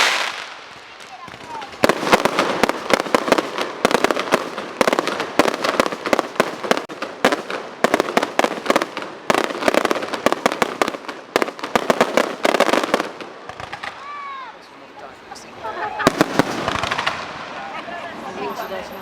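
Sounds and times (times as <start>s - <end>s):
fireworks bangs and crackling: 0.0s - 14.6s, 15.9s - 18.4s.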